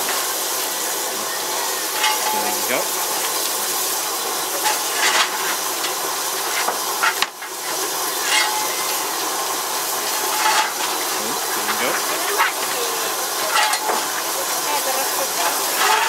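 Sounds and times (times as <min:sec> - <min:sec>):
steam hiss: 0:00.0 - 0:16.0
coal shovel scraping and clinking: 0:01.7 - 0:02.9, 0:04.2 - 0:16.0.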